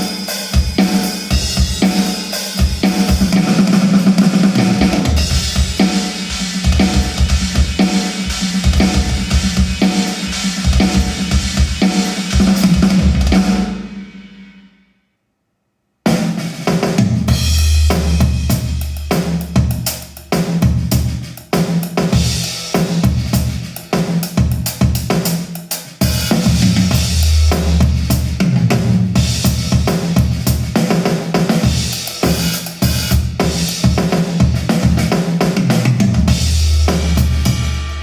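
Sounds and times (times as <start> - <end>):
drum-heavy music over speakers: 0.0 - 14.0, 16.1 - 38.0.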